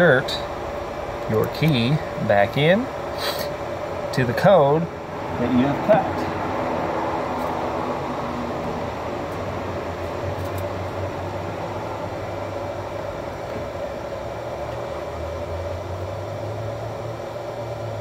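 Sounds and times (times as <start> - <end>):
vehicle air conditioning hum: 0.0 - 18.0.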